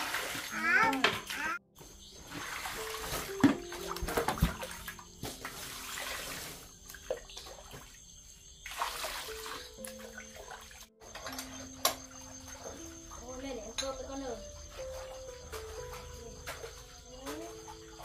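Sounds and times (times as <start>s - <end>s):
water splashing and pouring: 0.0s - 18.0s.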